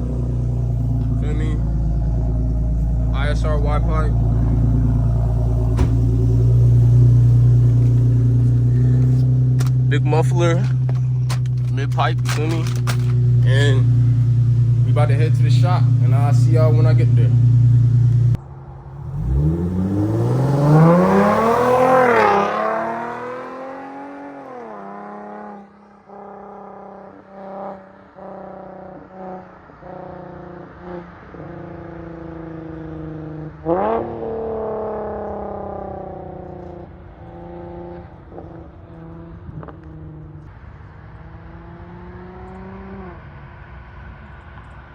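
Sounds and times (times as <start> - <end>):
car engine accelerating: 0.0 - 44.8.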